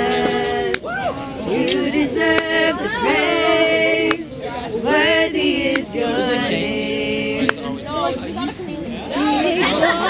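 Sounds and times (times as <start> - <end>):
women singing a cappella: 0.0 - 10.0.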